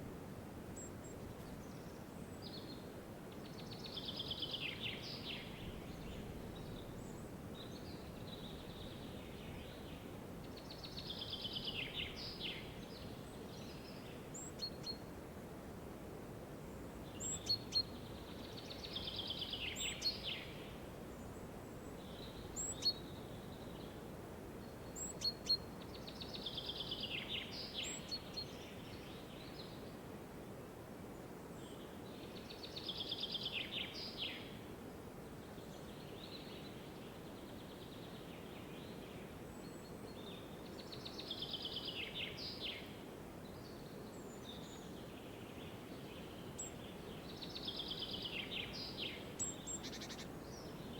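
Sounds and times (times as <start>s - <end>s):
songbird singing: 0.8s - 15.1s, 16.6s - 30.0s, 31.1s - 34.7s, 35.3s - 50.9s.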